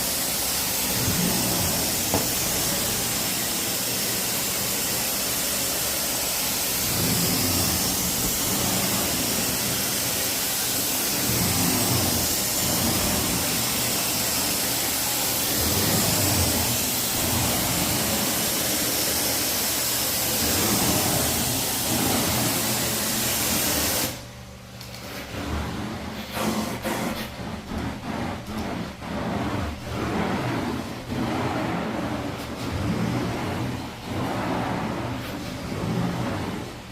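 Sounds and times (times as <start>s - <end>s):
carpet cleaning machine running: 0.0s - 36.9s.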